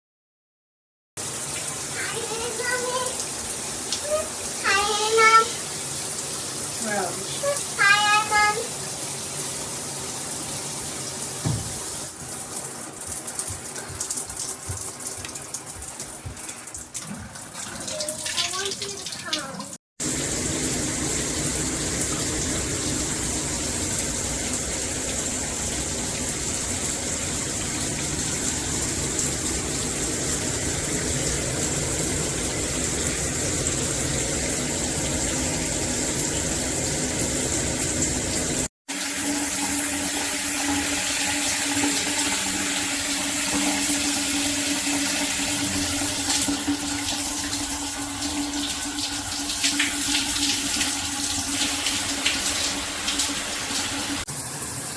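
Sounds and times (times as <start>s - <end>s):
shower water spraying: 1.2s - 54.9s.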